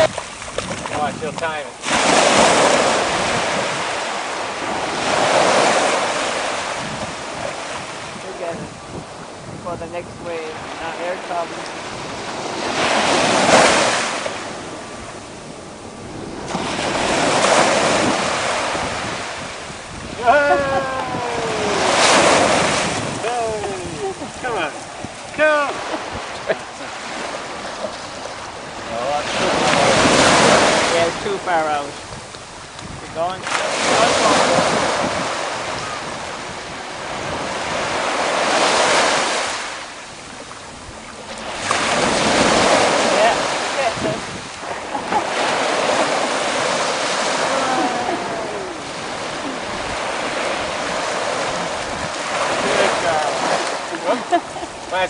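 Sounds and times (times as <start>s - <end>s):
ocean surf breaking: 0.0s - 55.0s
wind on microphone: 0.0s - 55.0s.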